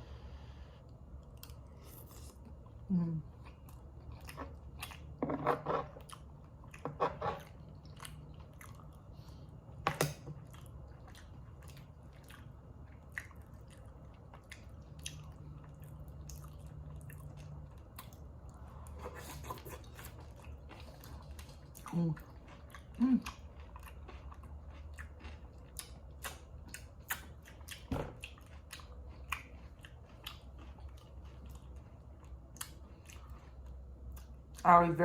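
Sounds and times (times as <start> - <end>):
close chewing and mouth smacks: 0.8 - 34.7.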